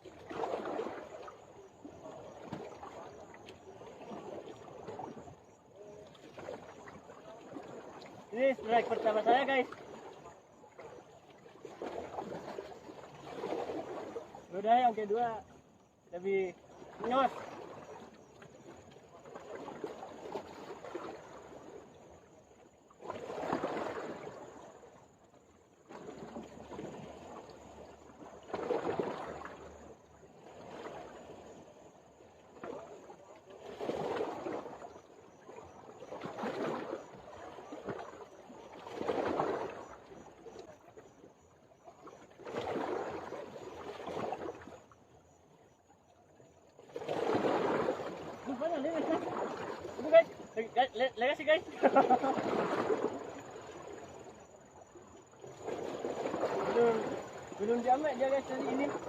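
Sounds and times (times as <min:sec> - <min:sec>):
water washing in surges: 0:00.0 - 0:15.5, 0:16.1 - 0:21.9, 0:23.0 - 0:25.0, 0:25.8 - 0:41.1, 0:41.8 - 0:44.8, 0:46.8 - 0:54.4, 0:55.5 - 0:59.0.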